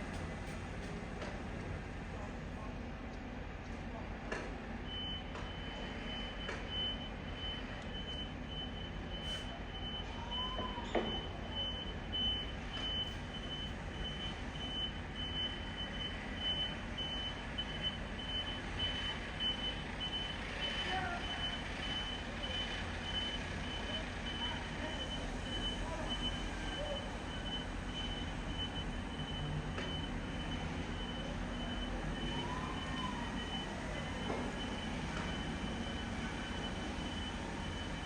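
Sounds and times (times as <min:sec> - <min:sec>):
reversing alarm beeping: 0:04.9 - 0:38.0.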